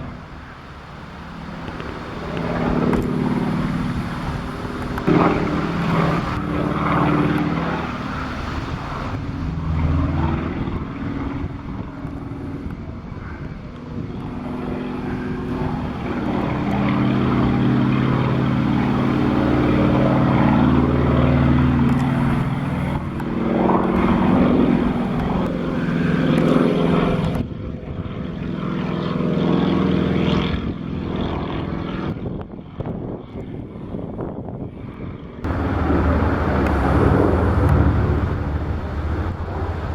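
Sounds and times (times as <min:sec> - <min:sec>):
propeller plane engine overhead: 0:00.0 - 0:39.9.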